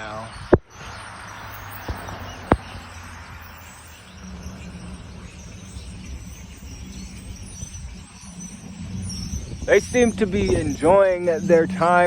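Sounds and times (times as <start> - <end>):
faint high chirping: 0.0 - 12.0
low background rumble: 0.0 - 12.0.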